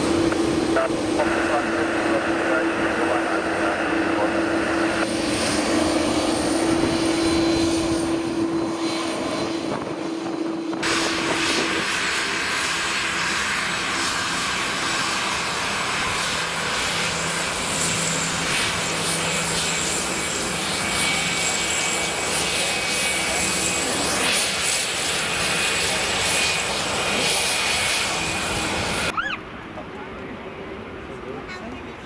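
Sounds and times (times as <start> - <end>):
airliner engines running: 0.0 - 32.0.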